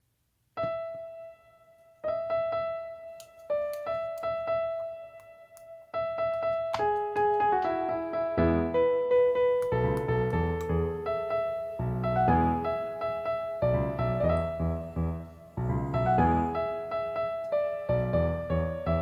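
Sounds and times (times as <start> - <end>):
solo piano music: 0.6 - 19.0.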